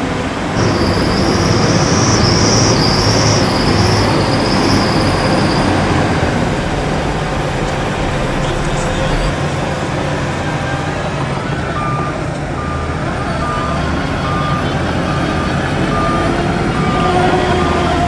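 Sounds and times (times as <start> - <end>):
diesel engine running: 0.0 - 18.0
reversing alarm beeping: 0.6 - 18.0.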